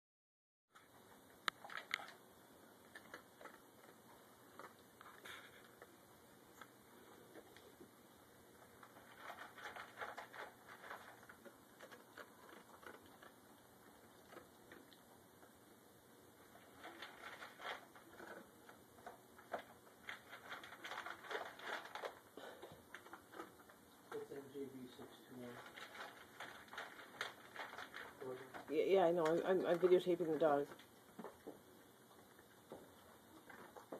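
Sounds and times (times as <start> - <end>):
dog chewing and crunching food: 0.7 - 33.9.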